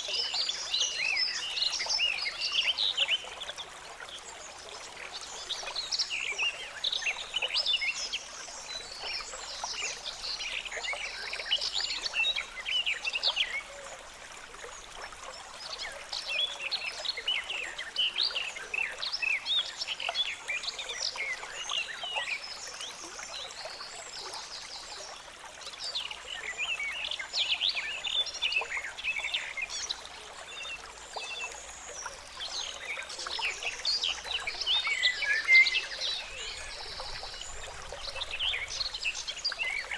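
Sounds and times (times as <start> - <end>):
stream water trickling and gurgling: 0.0 - 39.9.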